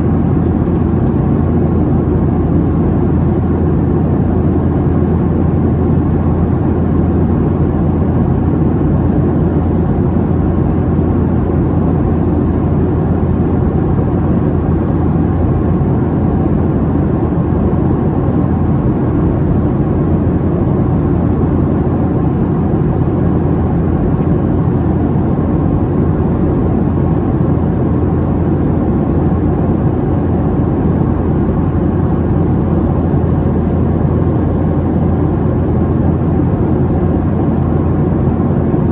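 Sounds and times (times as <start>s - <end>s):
air rushing along fuselage: 0.0s - 38.9s
jet engine hum: 0.0s - 38.9s.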